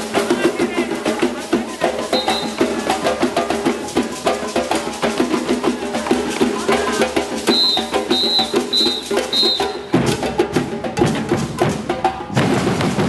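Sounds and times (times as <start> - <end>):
drums: 0.0 - 13.0.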